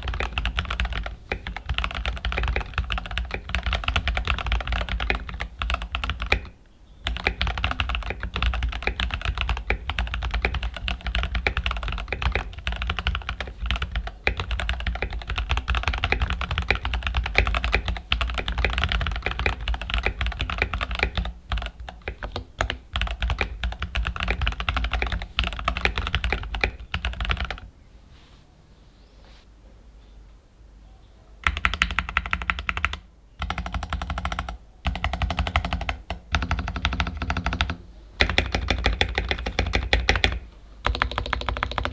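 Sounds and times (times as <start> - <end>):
fast typing on mechanical keyboard: 0.0 - 27.7, 31.4 - 41.9.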